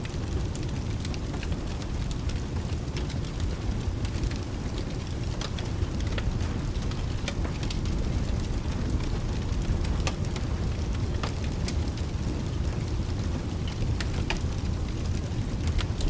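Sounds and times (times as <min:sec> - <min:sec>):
continuous low rumble: 0:00.0 - 0:16.0
steady rain: 0:00.0 - 0:16.0
wood fire crackling and popping: 0:00.0 - 0:16.0.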